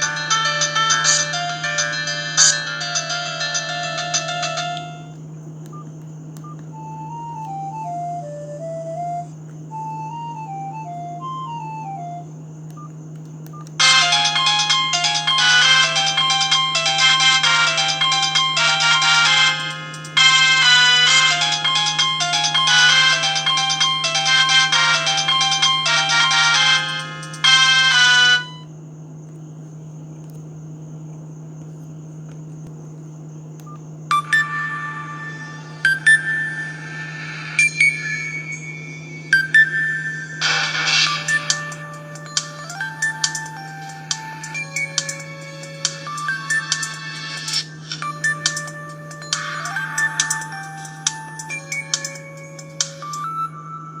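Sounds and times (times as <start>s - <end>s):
phone ringtone melody: 0.0s - 12.9s, 13.6s - 28.6s, 34.1s - 54.0s
faint high whine: 0.0s - 54.0s
low steady hum: 0.0s - 54.0s.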